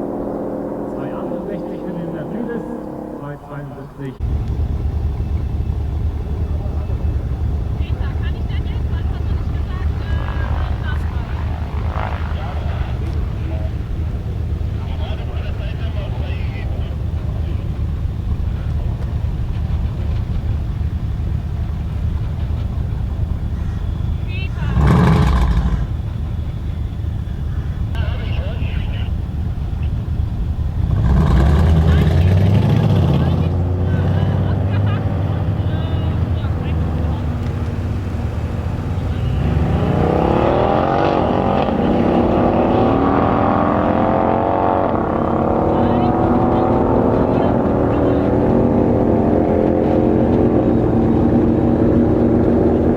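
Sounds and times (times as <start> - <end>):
car engine running steadily: 0.0 - 52.9.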